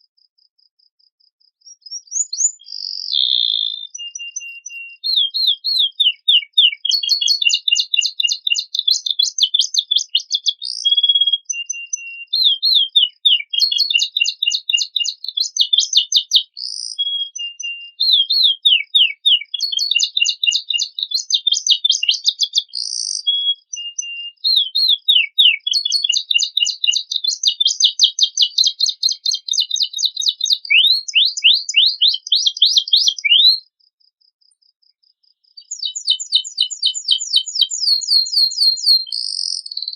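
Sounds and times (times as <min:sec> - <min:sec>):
canary singing trilling song: 0:01.6 - 0:33.7, 0:35.4 - 0:39.9.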